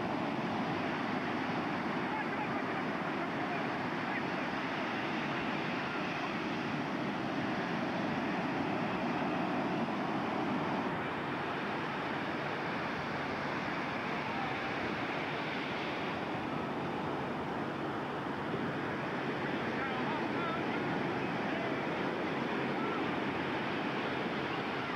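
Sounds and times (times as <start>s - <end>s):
ocean surf breaking: 0.0s - 24.9s.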